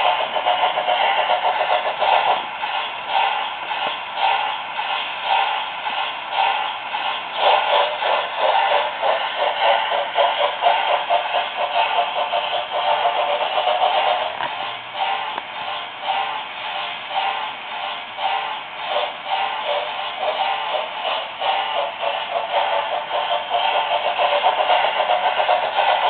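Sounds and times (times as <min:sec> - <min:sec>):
steam chuffing through small speaker: 0:00.0 - 0:26.0.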